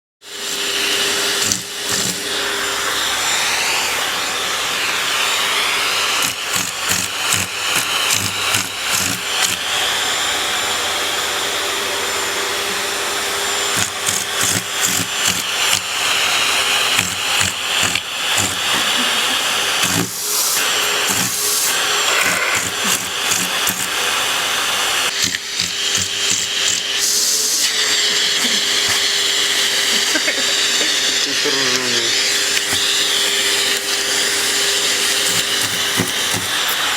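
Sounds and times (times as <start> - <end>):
vacuum cleaner running: 0.2 - 36.9.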